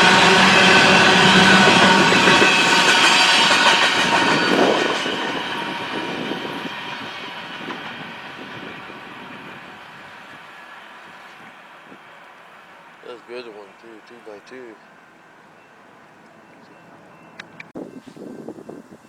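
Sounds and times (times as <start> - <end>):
diesel locomotive engines: 0.0 - 19.0
train wheels on rails: 0.0 - 19.0.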